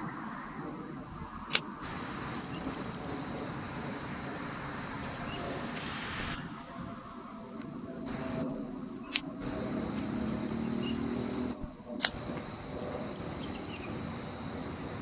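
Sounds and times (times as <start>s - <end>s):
sharp clicks: 1.5s - 15.0s.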